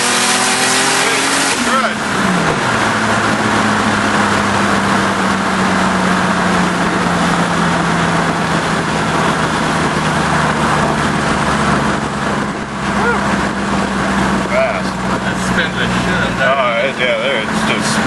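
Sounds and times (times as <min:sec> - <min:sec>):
engine drone inside cab: 0:00.0 - 0:18.0
road noise: 0:00.0 - 0:18.0.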